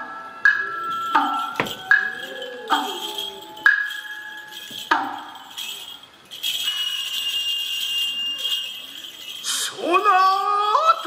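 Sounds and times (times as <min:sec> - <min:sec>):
high ringing hum: 0:00.0 - 0:11.0.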